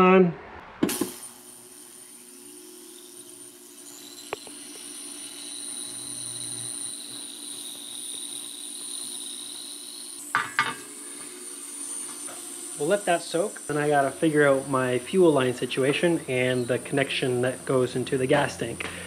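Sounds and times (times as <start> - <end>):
ultrasonic cleaner buzzing: 0.9 - 19.0.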